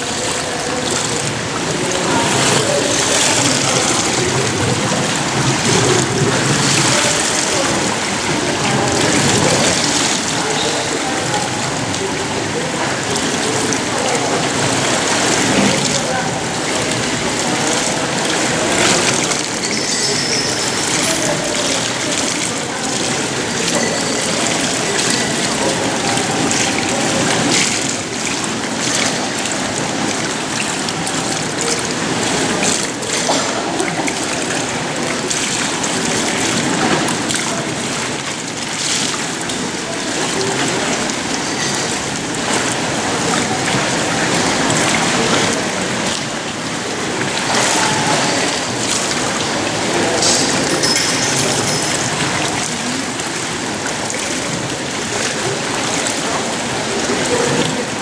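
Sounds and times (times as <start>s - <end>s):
pool water lapping and trickling: 0.0s - 58.0s.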